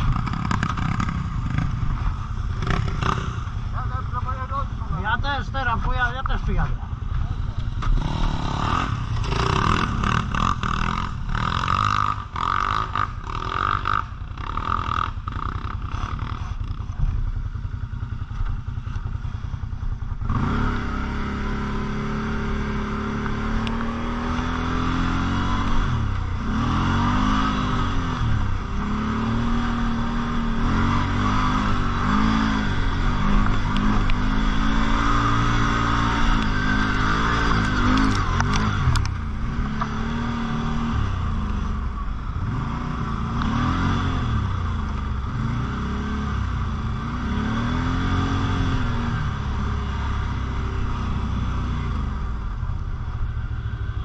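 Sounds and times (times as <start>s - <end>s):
quad bike engine revving: 0.0s - 5.8s, 6.6s - 17.4s, 19.8s - 52.4s.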